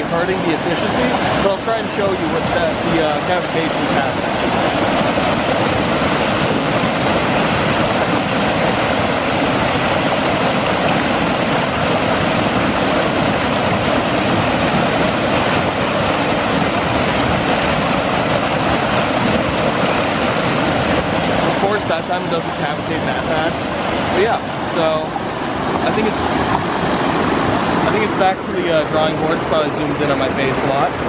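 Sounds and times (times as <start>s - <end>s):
stream water rushing and splashing: 0.0s - 31.0s.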